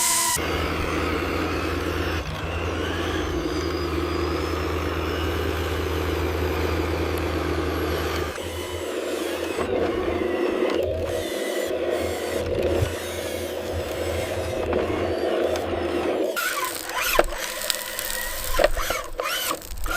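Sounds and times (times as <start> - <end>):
radio-controlled machine engine drone: 0.0 - 19.9.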